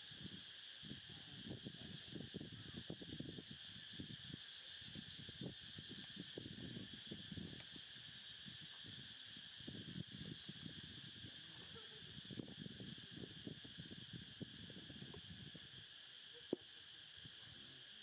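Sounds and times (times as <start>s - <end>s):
insect chorus trilling: 0.0s - 18.0s.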